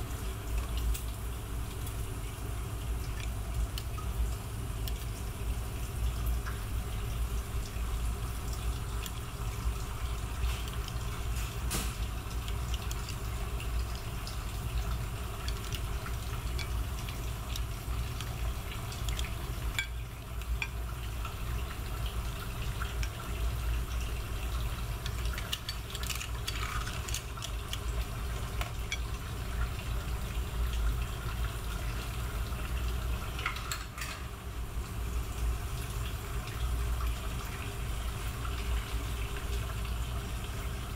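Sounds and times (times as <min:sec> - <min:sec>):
kitchen background rumble: 0:00.0 - 0:40.9.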